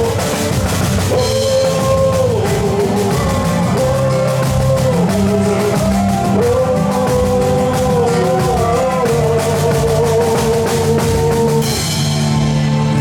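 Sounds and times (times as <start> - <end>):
band playing folk music: 0.0 - 13.0.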